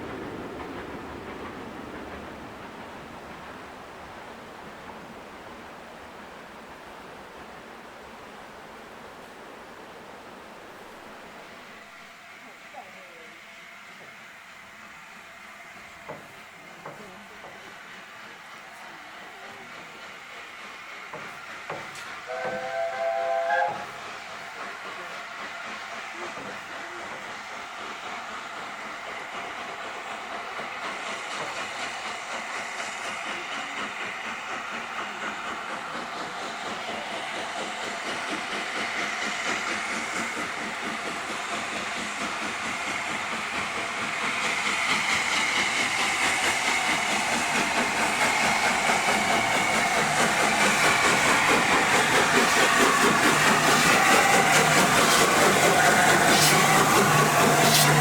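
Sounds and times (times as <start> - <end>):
steam locomotive hauling train: 0.0 - 58.0.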